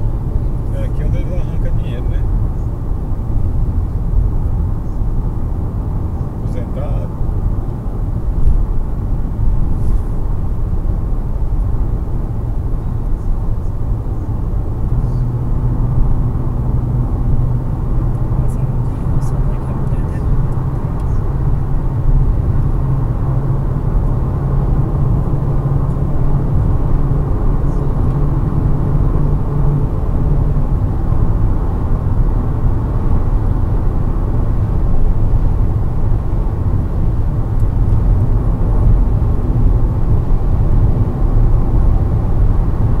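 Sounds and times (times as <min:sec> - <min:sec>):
car cabin road drone: 0:00.0 - 0:43.0.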